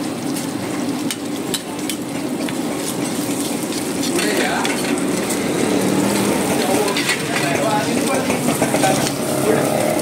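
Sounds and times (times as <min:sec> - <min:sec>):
egg sizzling on griddle: 0:00.0 - 0:10.0.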